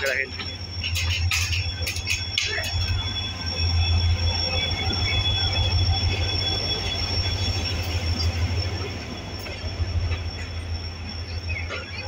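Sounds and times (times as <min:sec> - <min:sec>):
diesel locomotive engine drone: 0:00.0 - 0:12.0
running gear squeal: 0:00.0 - 0:12.0.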